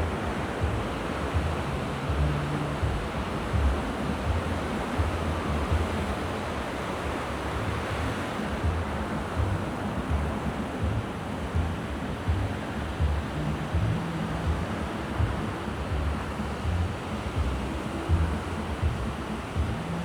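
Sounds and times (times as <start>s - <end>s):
surf washing on shore: 0.0s - 20.0s.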